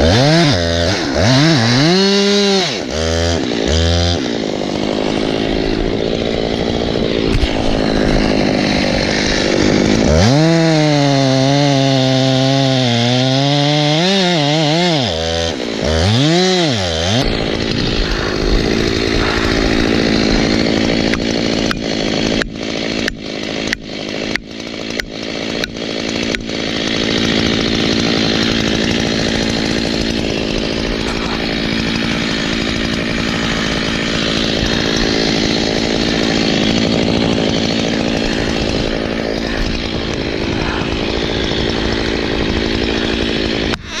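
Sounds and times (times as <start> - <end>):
chainsaw cutting through trunk: 0.0 - 44.0.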